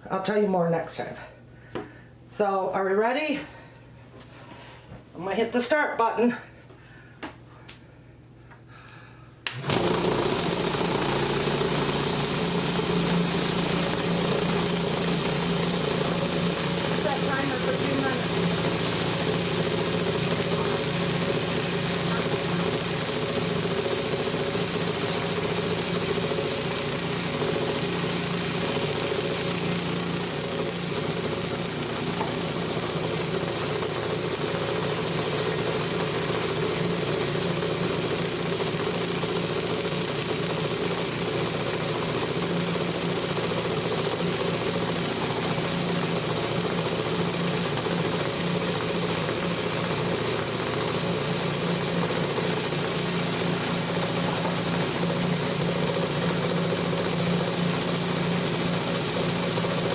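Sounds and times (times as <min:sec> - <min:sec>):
flour sieve shaker humming: 0:09.6 - 0:59.9.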